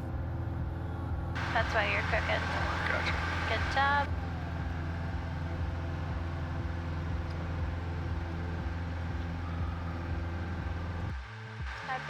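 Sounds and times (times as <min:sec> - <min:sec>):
aircraft engine at climb power: 0:00.0 - 0:12.0.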